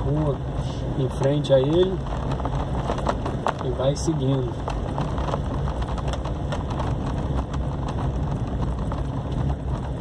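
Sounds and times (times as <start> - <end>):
car engine and road rumble: 0.0 - 10.0
suspension knocks and rattles: 1.0 - 10.0.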